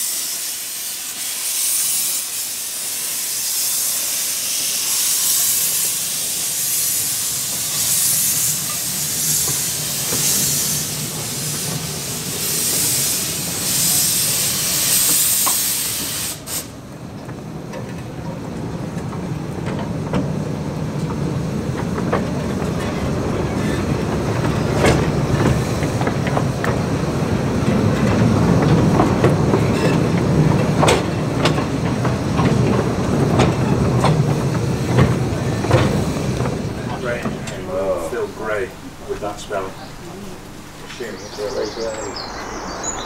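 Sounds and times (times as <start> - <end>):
steam locomotive hissing: 0.0 - 17.6, 18.4 - 43.0
train wheels clicking over rail joints: 0.5 - 42.1.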